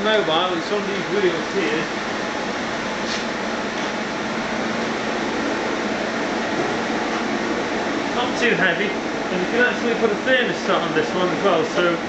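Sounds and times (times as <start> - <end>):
heater burner fan and flame rushing: 0.0 - 12.0.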